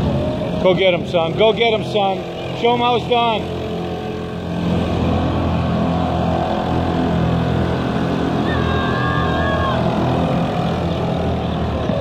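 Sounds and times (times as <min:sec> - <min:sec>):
small boat engines droning: 0:00.0 - 0:12.0.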